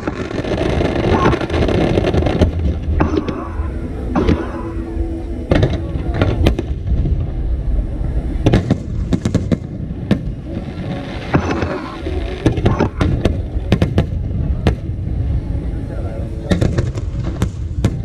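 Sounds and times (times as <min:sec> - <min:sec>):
fireworks bursting: 0:00.0 - 0:15.4, 0:16.3 - 0:18.0
steady low rumble: 0:00.0 - 0:18.0.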